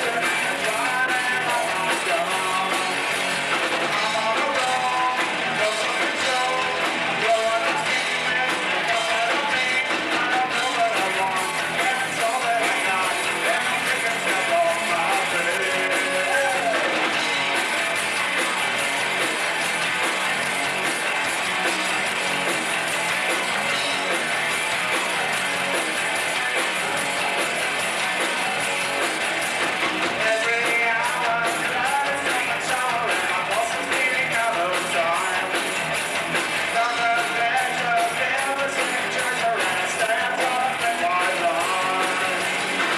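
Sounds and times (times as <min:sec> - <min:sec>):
live rock band: 0:00.0 - 0:42.9.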